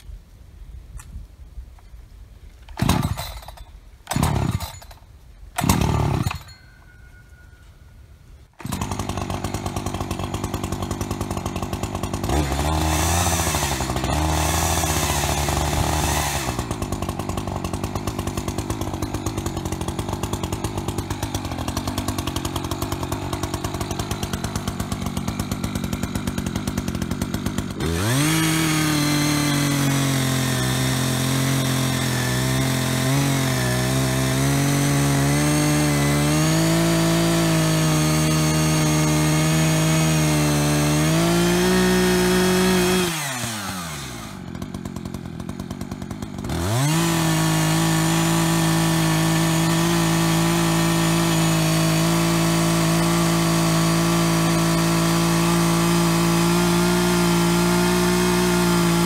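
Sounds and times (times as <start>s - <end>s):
chainsaw idling and revving: 2.7s - 6.8s, 8.5s - 59.0s
chainsaw cutting into tree trunk: 2.7s - 6.9s, 8.5s - 59.0s.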